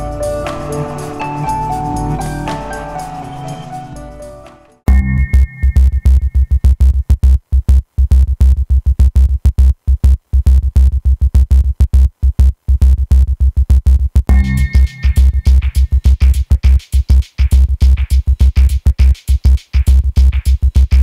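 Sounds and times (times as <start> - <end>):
stuttering electronic dance music: 0.0 - 21.0.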